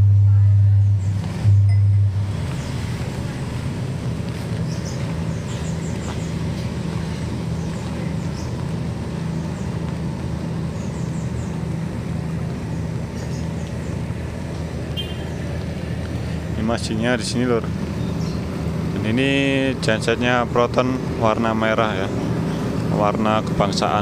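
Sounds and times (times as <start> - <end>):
diesel generator humming: 0.0 - 24.0.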